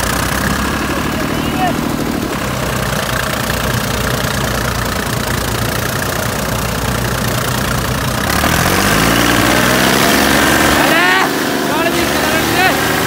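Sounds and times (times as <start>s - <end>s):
tractor diesel engine knocking: 0.0s - 13.0s.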